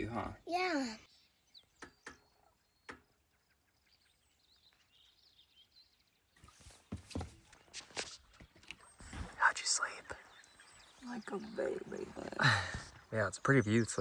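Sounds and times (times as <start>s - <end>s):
songbird chirps: 0.0s - 14.0s.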